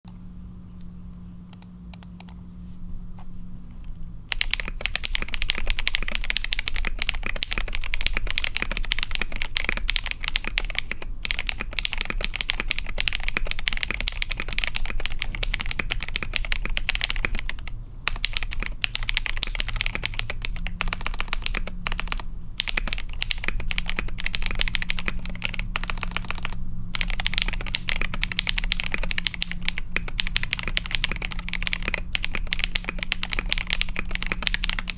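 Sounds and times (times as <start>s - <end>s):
fast mechanical keyboard typing: 4.3s - 34.9s.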